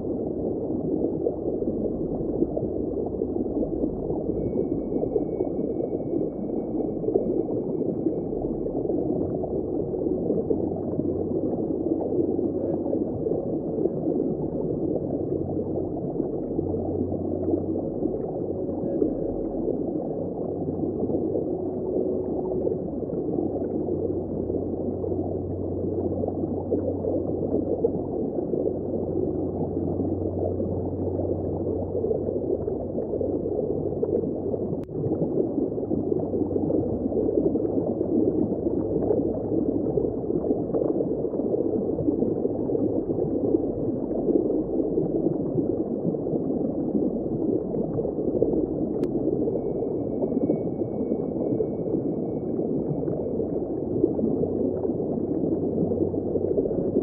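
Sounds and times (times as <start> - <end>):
low underwater rumble: 0.0 - 57.0
underwater rushing and bubbles: 0.0 - 57.0.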